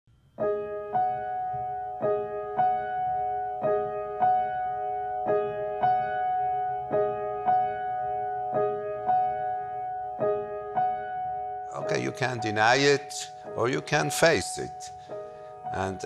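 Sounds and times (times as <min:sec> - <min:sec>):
piano chords: 0:00.1 - 0:16.0.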